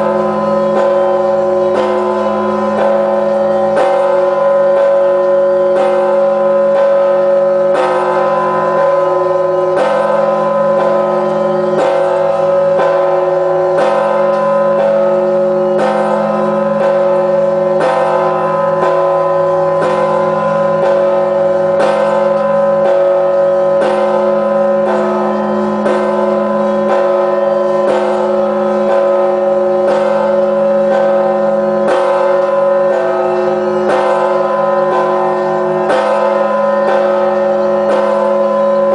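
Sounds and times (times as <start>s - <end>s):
large church bell tolling: 0.0s - 38.9s.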